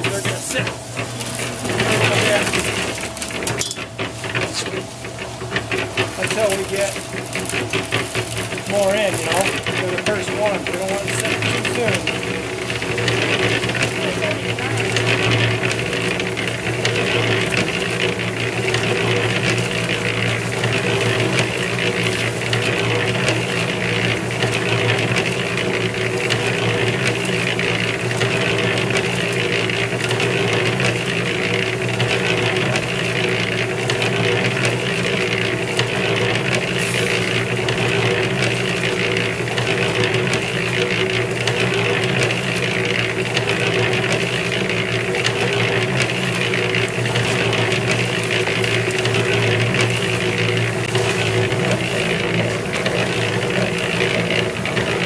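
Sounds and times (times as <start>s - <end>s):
clatter of mix in turning drum: 0.0s - 55.0s
concrete mixer motor hum: 0.0s - 55.0s.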